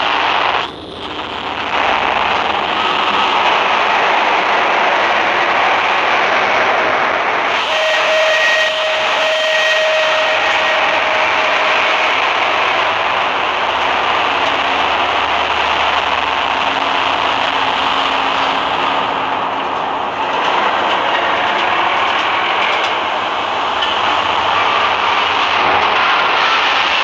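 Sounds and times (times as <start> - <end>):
train running: 0.0 - 27.0.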